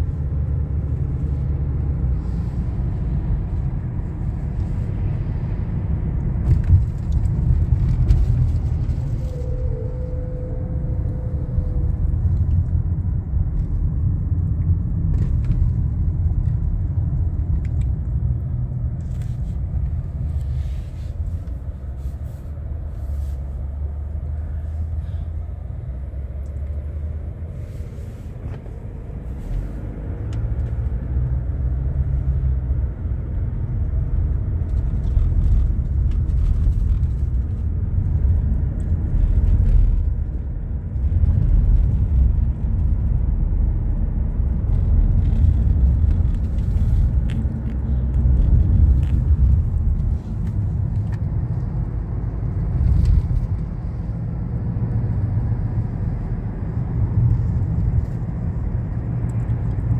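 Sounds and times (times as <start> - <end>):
car road rumble from inside: 0.0 - 59.9.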